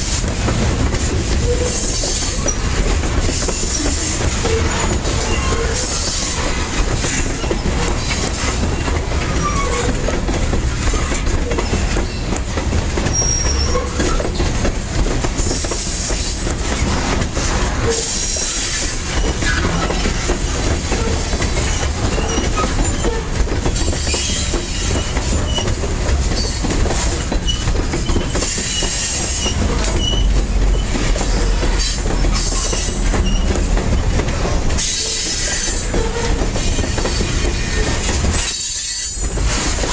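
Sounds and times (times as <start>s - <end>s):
freight train rumbling past: 0.0s - 39.9s
train wheels squealing: 1.4s - 12.4s, 13.0s - 34.1s, 34.8s - 39.9s.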